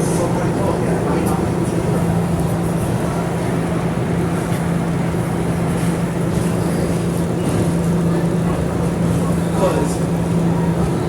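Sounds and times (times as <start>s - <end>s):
subway car rolling rumble: 0.0s - 11.0s.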